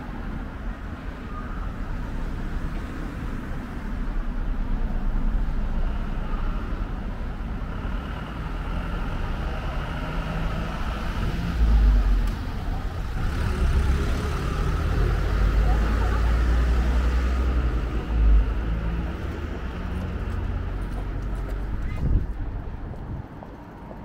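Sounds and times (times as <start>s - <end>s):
cars passing with tyre noise: 0.0s - 24.0s.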